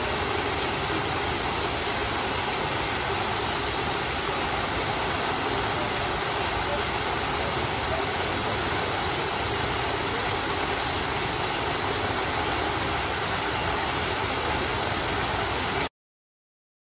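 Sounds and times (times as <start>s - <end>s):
running water rushing: 0.0s - 15.9s.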